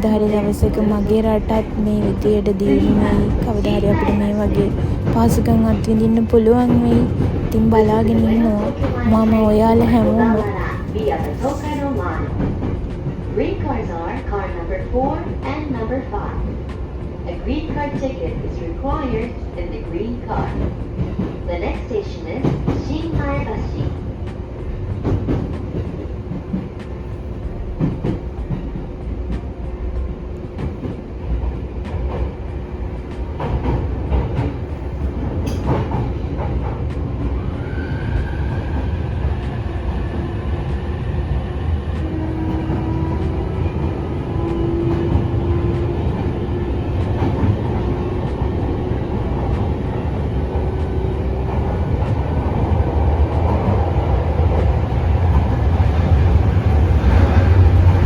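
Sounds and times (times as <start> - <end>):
rail joint clicks: 0.0 - 13.4, 20.2 - 58.0
train wheels rumbling on rails: 0.0 - 58.0.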